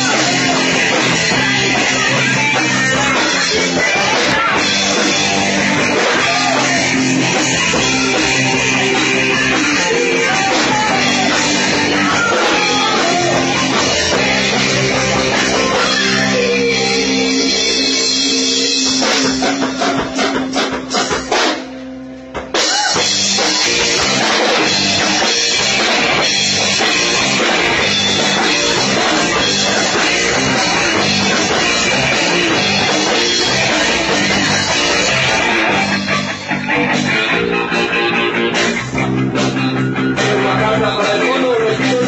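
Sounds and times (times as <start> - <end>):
live rock band playing: 0.0 - 42.0.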